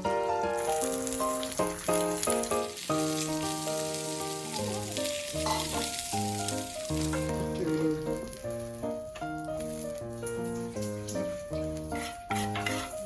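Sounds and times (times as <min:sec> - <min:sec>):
background music held notes: 0:00.0 - 0:13.0
food sizzling in a pan: 0:00.0 - 0:13.0.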